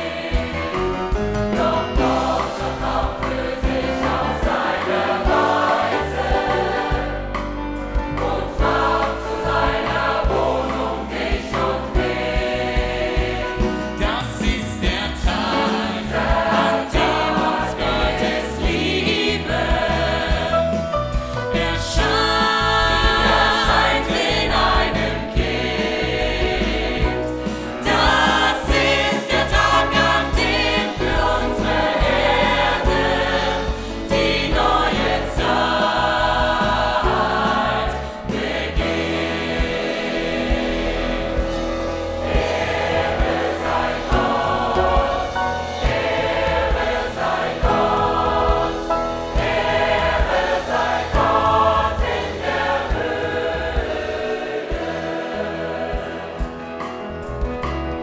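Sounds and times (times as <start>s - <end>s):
choir singing with band: 0.0s - 58.0s
drum kit: 0.0s - 58.0s
piano: 0.0s - 58.0s.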